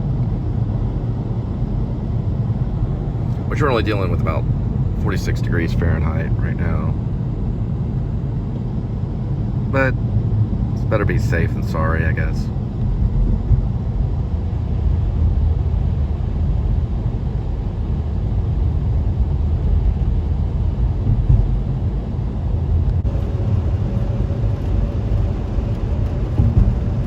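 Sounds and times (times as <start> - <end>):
car road noise and engine rumble: 0.0 - 27.0.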